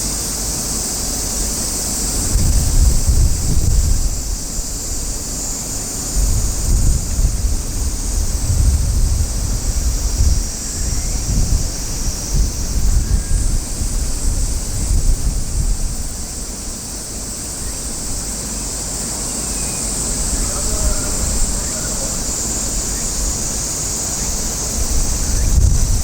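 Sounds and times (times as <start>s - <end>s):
steady high hiss: 0.0s - 26.0s
wind buffeting microphone: 1.5s - 18.3s, 20.0s - 26.0s.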